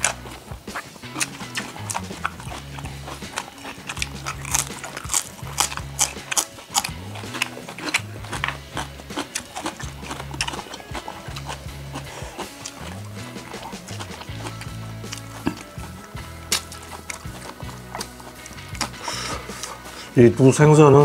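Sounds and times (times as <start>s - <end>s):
chewing food with crunches: 0.0s - 20.2s
background music with bass: 0.0s - 21.0s.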